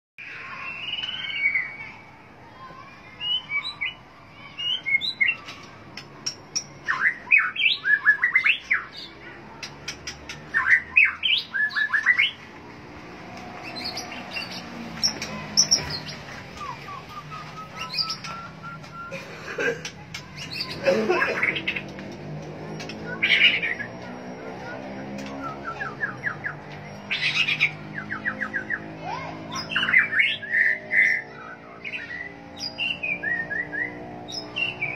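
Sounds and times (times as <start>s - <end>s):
bird singing: 0.2s - 34.9s.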